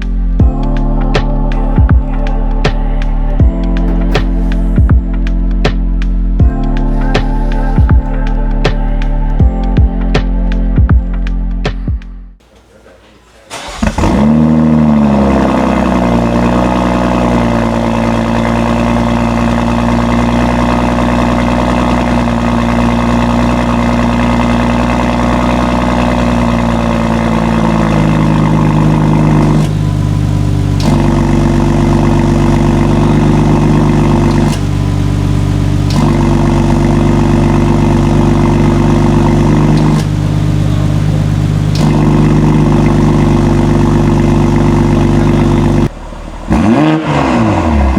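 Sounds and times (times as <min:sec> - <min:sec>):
car engine starting and idling: 0:00.0 - 0:09.8, 0:12.4 - 0:47.9.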